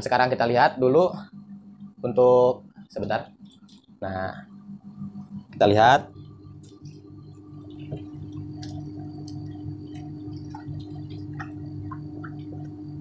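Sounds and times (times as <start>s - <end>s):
ice machine humming: 2.0s - 13.0s.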